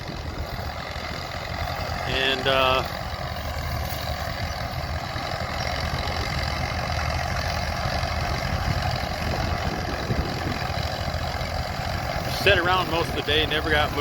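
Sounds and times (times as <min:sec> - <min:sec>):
crawler tractor engine rumbling: 0:00.0 - 0:14.0.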